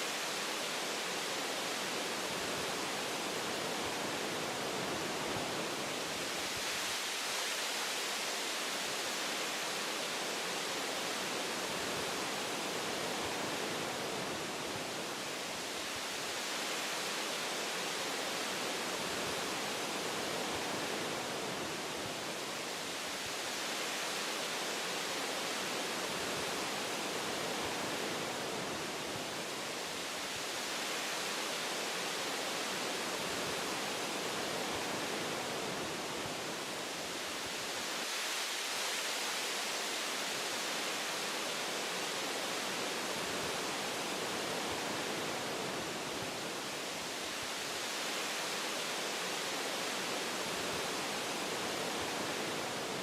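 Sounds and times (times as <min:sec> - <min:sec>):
wind blowing through trees: 0:00.0 - 0:53.0.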